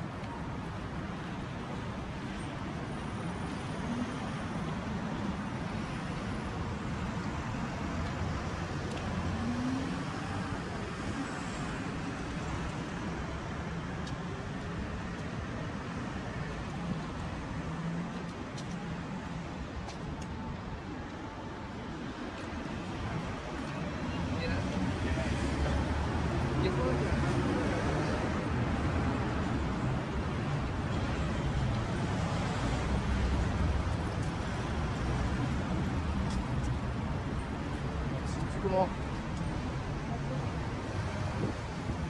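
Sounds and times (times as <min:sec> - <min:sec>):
cars and vans driving past: 0:00.0 - 0:42.0.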